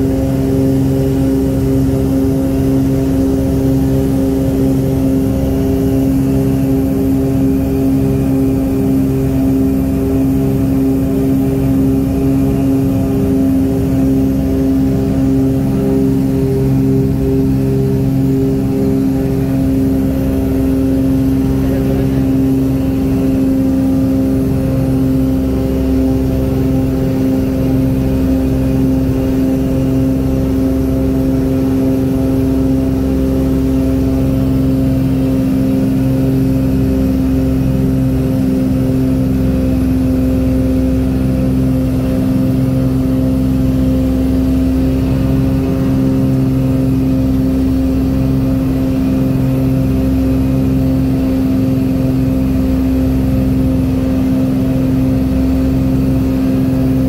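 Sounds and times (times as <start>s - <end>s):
light airplane engine droning: 0.0s - 57.0s.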